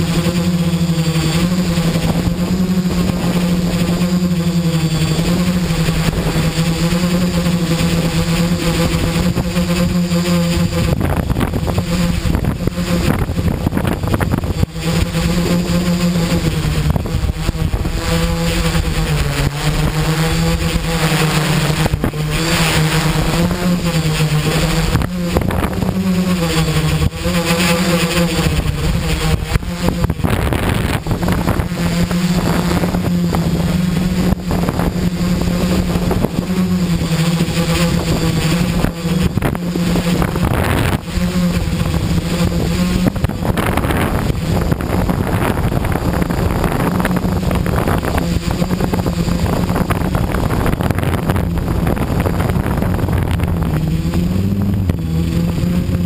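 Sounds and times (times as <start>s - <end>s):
drone propellers humming: 0.0s - 56.0s
wind buffeting microphone: 0.0s - 56.0s.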